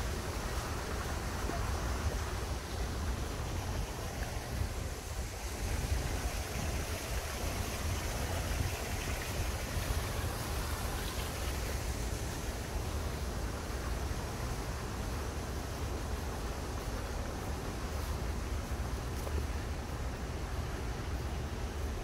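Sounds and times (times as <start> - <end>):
constant low rumble: 0.0 - 22.0
fountain water rushing: 0.0 - 22.0.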